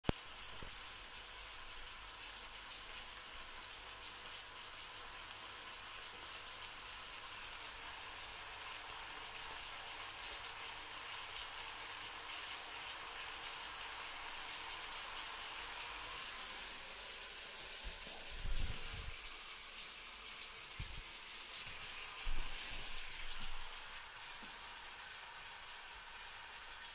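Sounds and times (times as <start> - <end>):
bacon sizzling in a frying pan: 0.1 - 26.9.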